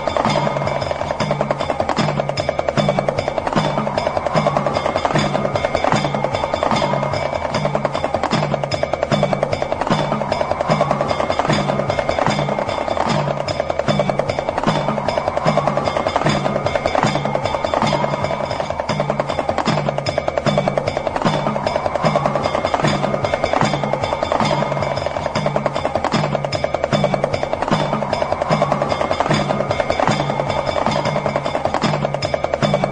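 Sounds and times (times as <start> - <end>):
hand drum rattling roll: 0.0 - 32.9.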